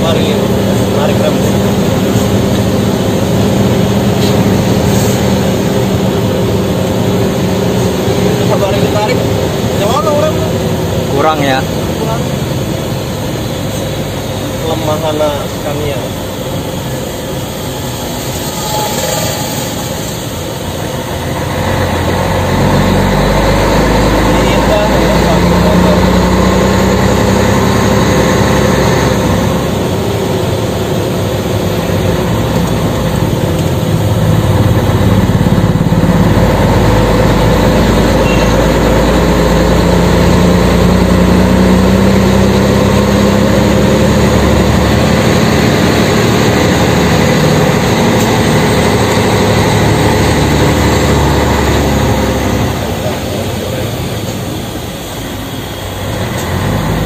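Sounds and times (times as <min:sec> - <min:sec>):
diesel truck engine under load: 0:00.0 - 0:18.4, 0:20.2 - 0:57.0.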